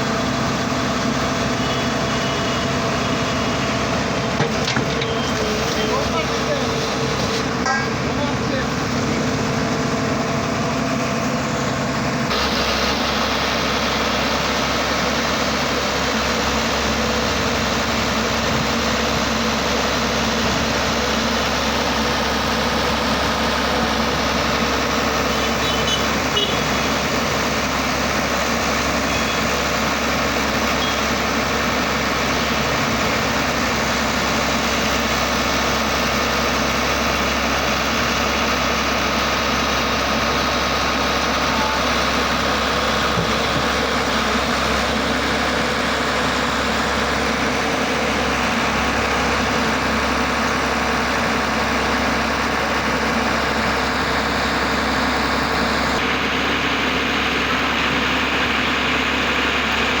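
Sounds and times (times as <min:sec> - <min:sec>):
drilling machine engine running: 0:00.0 - 1:00.0.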